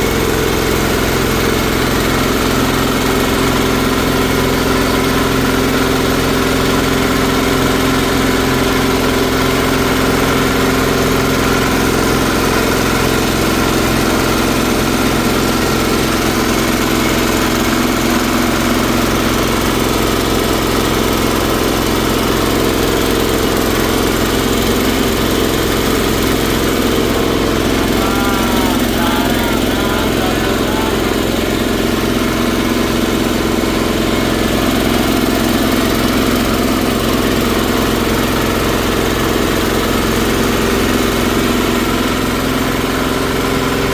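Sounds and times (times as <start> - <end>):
shredder machine humming: 0.0 - 43.9.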